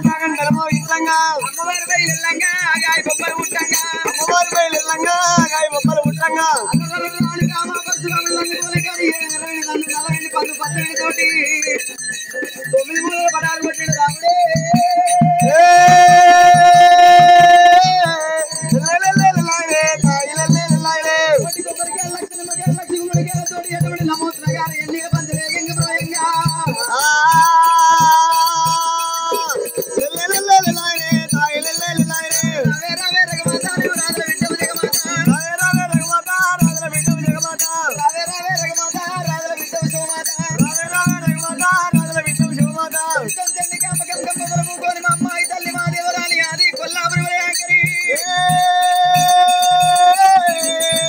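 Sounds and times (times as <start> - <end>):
jingling rattle: 0.0 - 51.0
man singing: 0.0 - 51.0
steady drum beat: 0.0 - 51.0.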